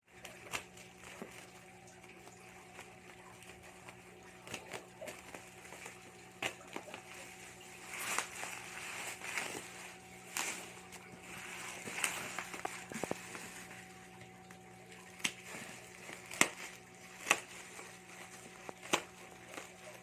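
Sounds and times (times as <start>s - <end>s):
parcel packaging clicks and rustling: 0.1s - 20.0s.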